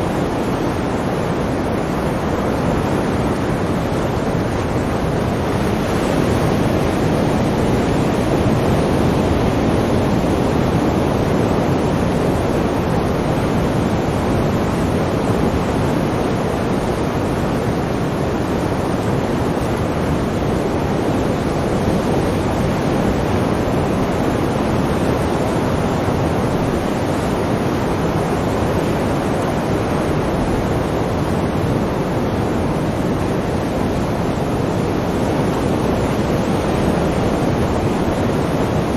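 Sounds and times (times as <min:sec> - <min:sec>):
waves rushing: 0:00.0 - 0:38.9.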